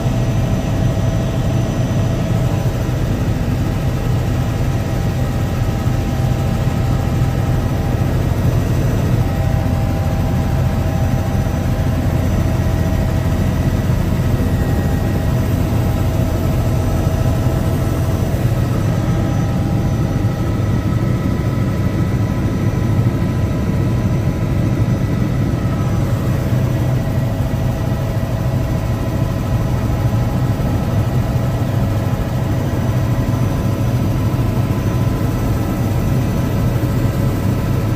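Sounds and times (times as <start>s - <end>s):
helicopter rotor and engine drone: 0.0s - 37.9s
steady whining tones: 0.4s - 37.8s.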